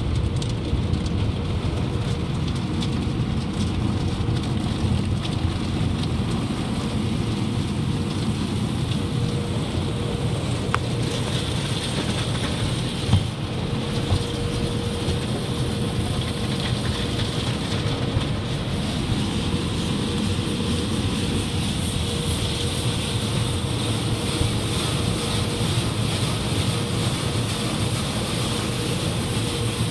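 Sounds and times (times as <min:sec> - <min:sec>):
car wash machinery rumble: 0:00.0 - 0:29.9.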